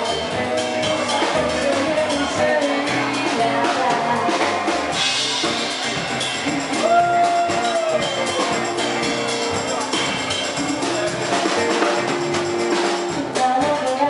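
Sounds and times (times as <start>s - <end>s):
drum kit beat: 0.0s - 14.0s
live band playing: 0.0s - 14.0s.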